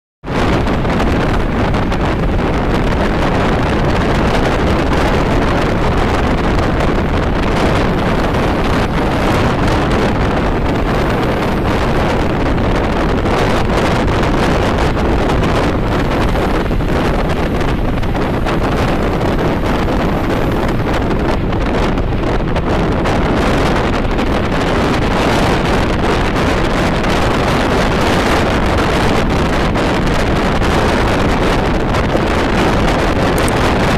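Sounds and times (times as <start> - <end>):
wind buffeting microphone: 0.2 - 33.9
road noise inside moving car: 0.3 - 33.9.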